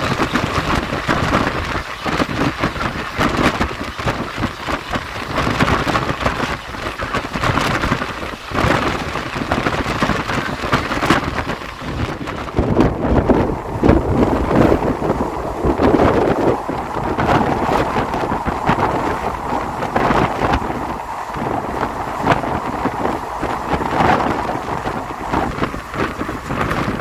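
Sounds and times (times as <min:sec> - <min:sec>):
train coach rattling on track: 0:00.0 - 0:27.0.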